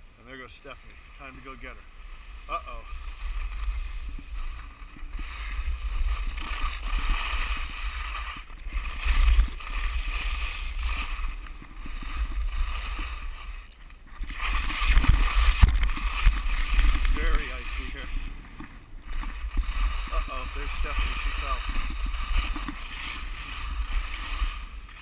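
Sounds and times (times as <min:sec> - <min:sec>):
skis scraping on icy snow: 0:00.2 - 0:25.0.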